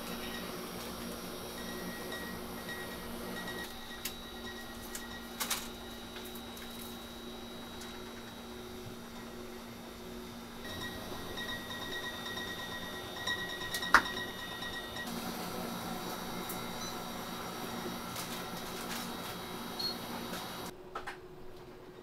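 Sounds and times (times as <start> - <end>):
faint steady whine: 0.0 - 20.7
machinery humming: 0.0 - 20.7.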